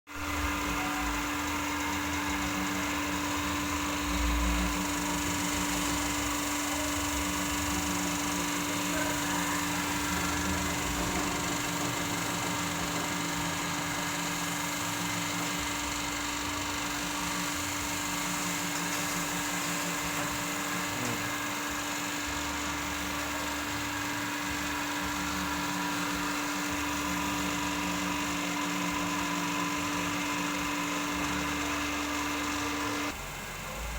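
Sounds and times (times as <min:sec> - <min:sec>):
low machine rumble: 0:00.1 - 0:33.9
machine motor hum: 0:00.1 - 0:33.9.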